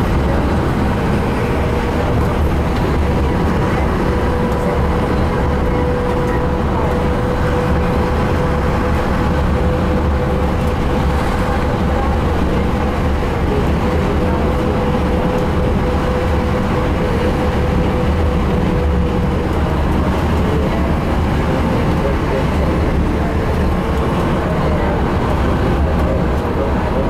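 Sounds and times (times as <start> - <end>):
bus engine drone: 0.0 - 27.0
road rumble: 0.0 - 27.0.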